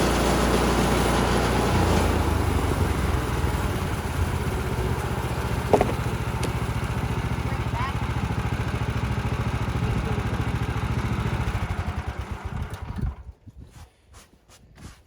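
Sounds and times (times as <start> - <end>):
sawmill gas engine running: 0.0 - 13.3.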